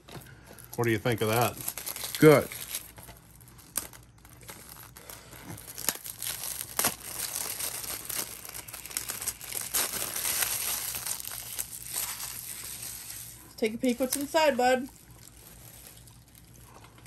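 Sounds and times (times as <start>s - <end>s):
plastic shrink-wrap crinkling and tearing: 0.0s - 17.0s.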